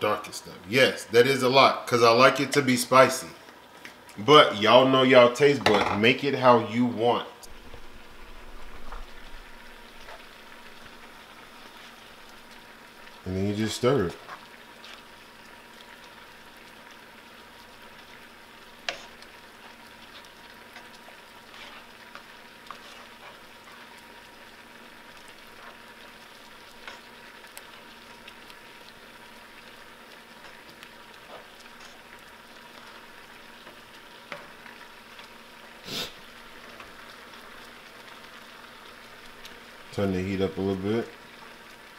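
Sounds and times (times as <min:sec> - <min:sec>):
sauce sizzling in a pan: 0:00.1 - 0:41.9.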